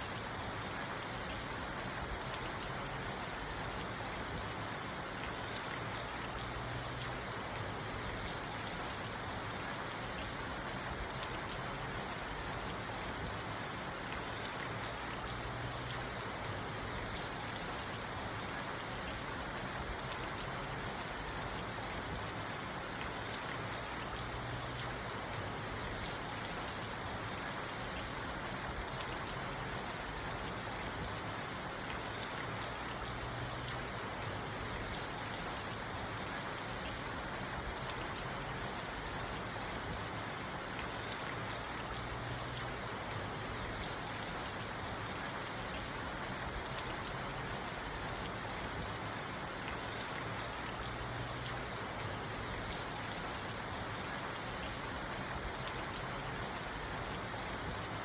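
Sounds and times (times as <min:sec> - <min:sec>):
rain on car roof and windows: 0:00.0 - 0:58.0.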